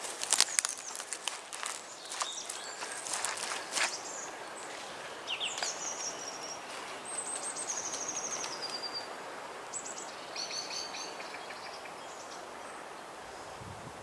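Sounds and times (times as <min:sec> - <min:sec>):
background hiss: 0:00.0 - 0:14.0
songbirds singing trilled phrases: 0:00.5 - 0:13.0.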